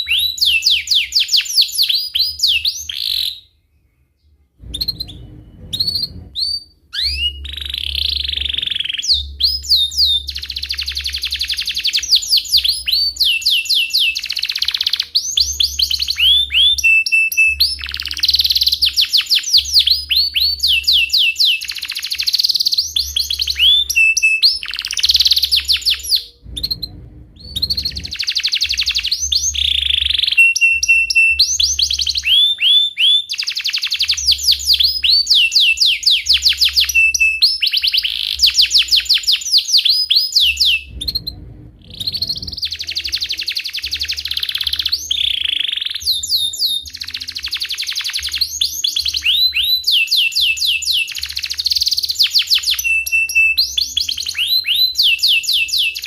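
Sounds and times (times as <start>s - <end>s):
canary trilling and chirping: 0.0s - 56.0s.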